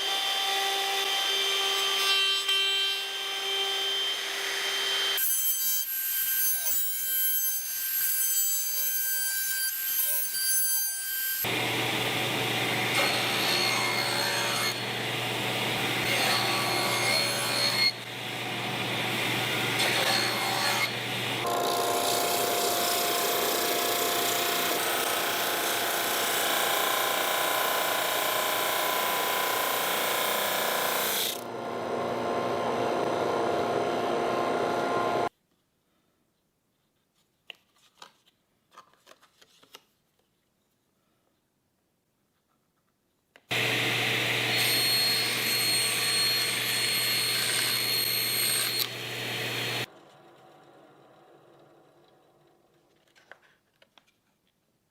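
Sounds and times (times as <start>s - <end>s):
woodworking power tool: 0.0s - 35.3s, 43.5s - 52.3s.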